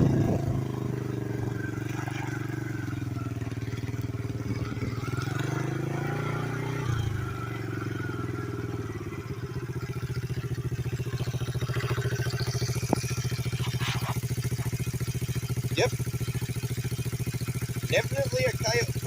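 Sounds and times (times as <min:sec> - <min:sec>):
small engine chugging: 0:00.0 - 0:19.0.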